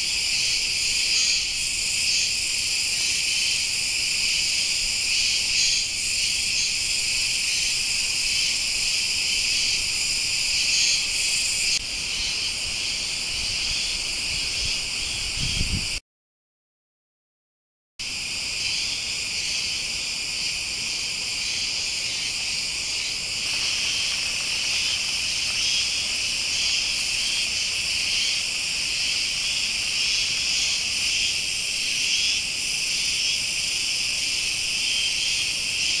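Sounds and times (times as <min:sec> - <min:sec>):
cicadas droning: 0:00.0 - 0:16.0, 0:18.0 - 0:36.0.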